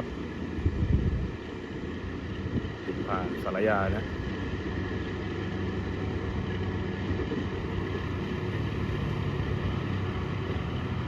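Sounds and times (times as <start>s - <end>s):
diesel train passing: 0.0s - 11.0s.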